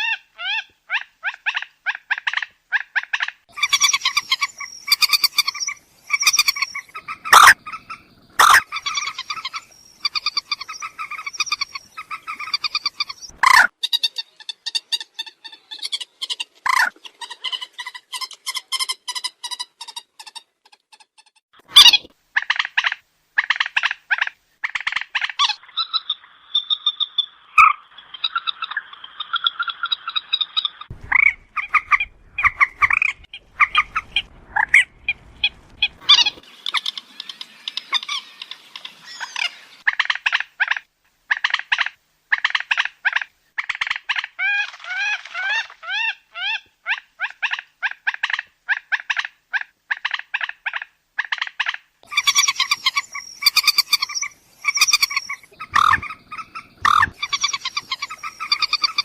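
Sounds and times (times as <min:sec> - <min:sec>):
moorhen calling: 0:00.0 - 0:19.9, 0:21.8 - 0:59.0.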